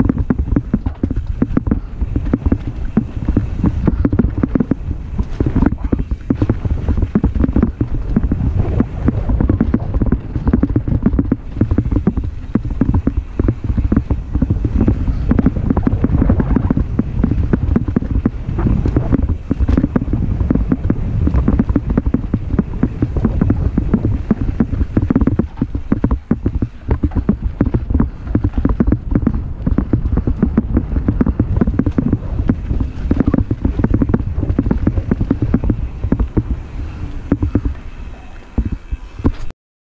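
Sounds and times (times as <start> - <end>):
bike knocking and rattling: 0.0 - 39.5
knobby tyres rolling on dirt: 0.0 - 39.5
wind buffeting microphone: 0.0 - 39.5.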